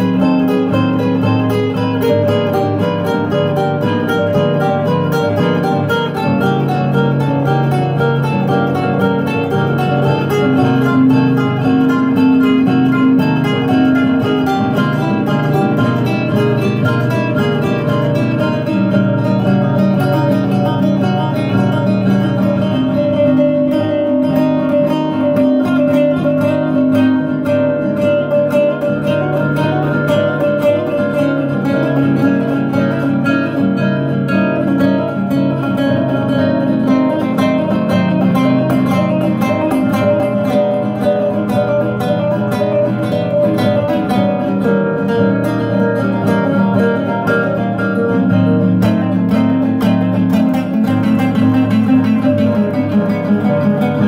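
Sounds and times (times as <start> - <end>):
fingerstyle classical guitar: 0.0 - 54.0.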